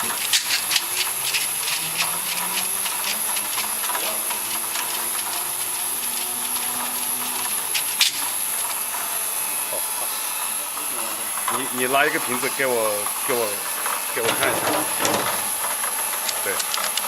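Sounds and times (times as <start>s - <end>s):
washing machine hiss and whine: 0.0s - 17.0s.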